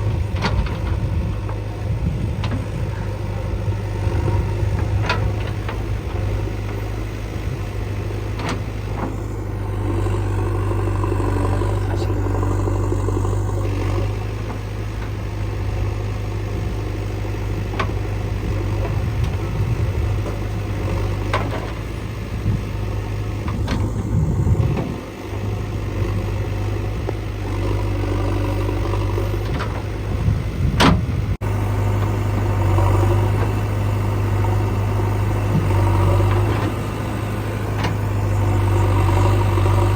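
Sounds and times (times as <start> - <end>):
diesel engines running under load: 0.0 - 39.9.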